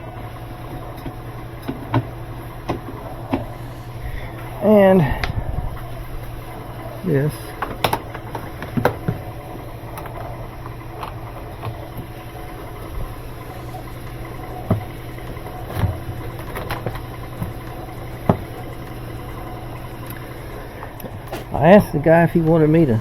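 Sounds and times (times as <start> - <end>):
low mechanical hum: 0.0 - 23.0
parts clicking and knocking: 0.6 - 4.6, 7.3 - 22.6.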